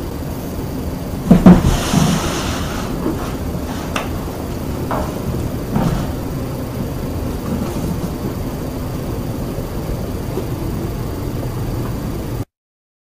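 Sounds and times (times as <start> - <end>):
low rumbling background noise: 0.0 - 12.5.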